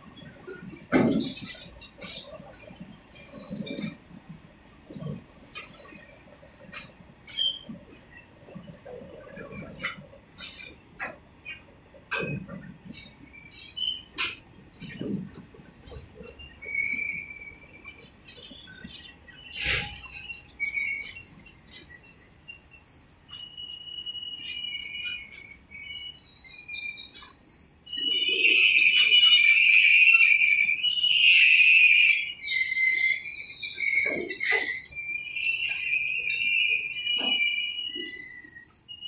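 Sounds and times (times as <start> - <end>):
train wheels squealing: 0.0 - 39.0.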